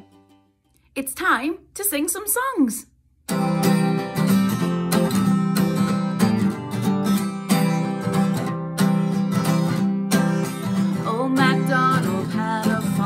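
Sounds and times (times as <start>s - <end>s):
acoustic guitar strumming: 0.0s - 0.7s, 3.3s - 13.0s.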